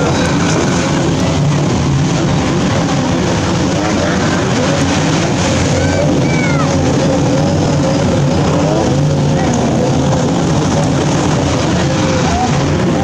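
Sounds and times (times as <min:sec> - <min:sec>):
outboard motor engine whine: 0:00.0 - 0:13.0.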